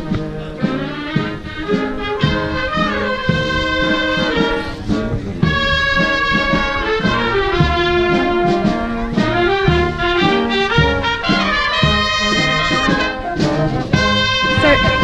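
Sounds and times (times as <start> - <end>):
drum beat: 0.0 - 15.0
marching brass band playing: 0.0 - 15.0.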